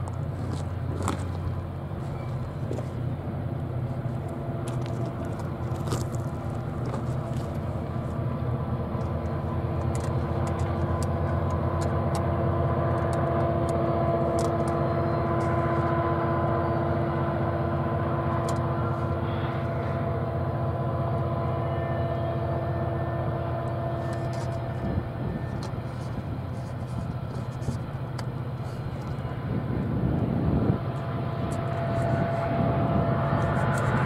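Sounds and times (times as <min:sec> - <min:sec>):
distant locomotive engine drone: 0:00.0 - 0:34.0
held humming tones: 0:00.0 - 0:34.0.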